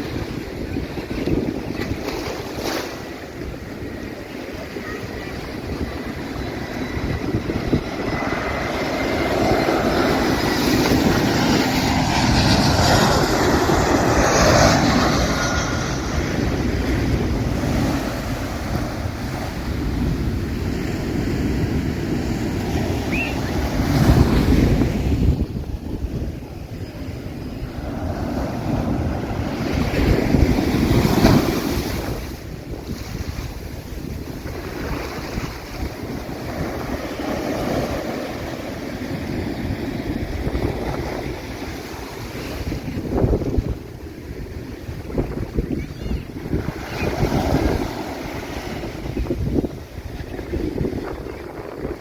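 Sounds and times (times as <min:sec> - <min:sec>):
surf breaking on beach: 0:00.0 - 0:52.0
wind buffeting microphone: 0:00.0 - 0:52.0.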